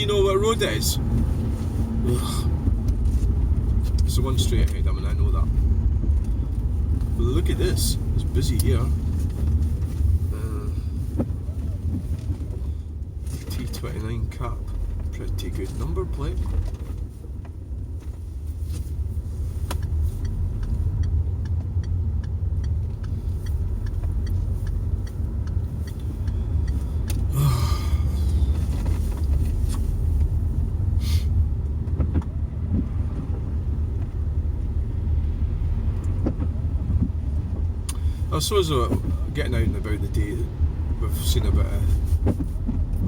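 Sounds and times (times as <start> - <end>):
car engine and tyre rumble: 0.0 - 43.0.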